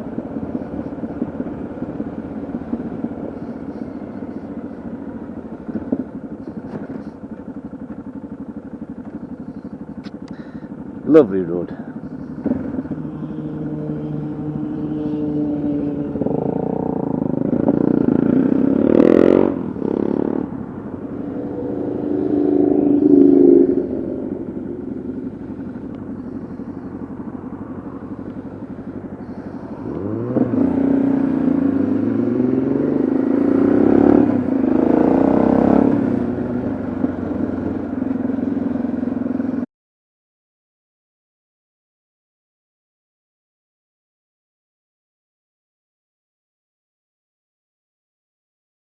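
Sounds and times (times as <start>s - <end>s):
motorcycle engine revving: 0.0s - 39.7s.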